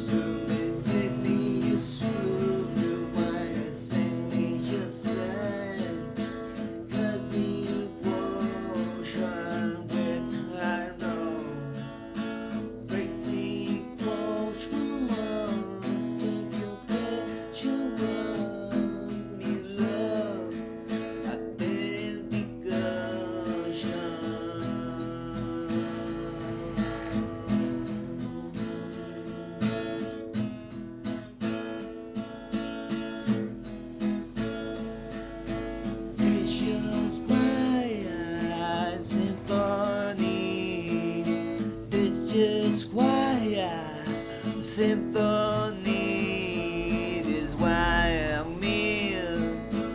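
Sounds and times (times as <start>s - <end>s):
strummed acoustic guitar: 0.0s - 49.9s.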